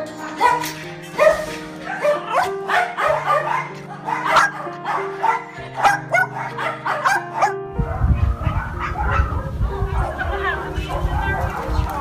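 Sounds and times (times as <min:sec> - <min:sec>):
background music with held notes: 0:00.0 - 0:12.0
dogs barking and yipping: 0:00.0 - 0:12.0.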